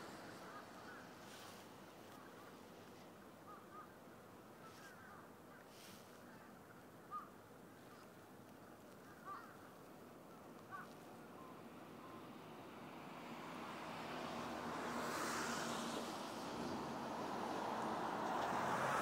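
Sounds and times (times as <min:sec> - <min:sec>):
low outdoor hiss: 0:00.0 - 0:19.0.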